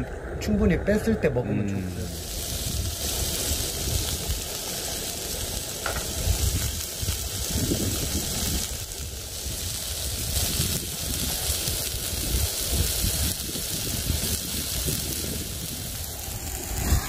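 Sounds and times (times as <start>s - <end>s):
beef sizzling on a stone grill: 0.4s - 17.0s
low rumble: 1.9s - 17.0s.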